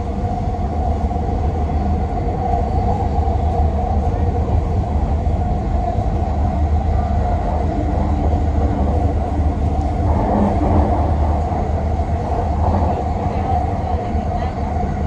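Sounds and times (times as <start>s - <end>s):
constant hum: 0.0s - 15.0s
train rumble: 0.0s - 15.0s.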